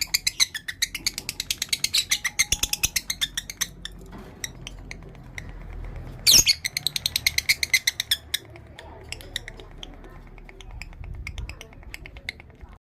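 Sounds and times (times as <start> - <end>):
lovebird chattering chirps: 0.0 - 12.5.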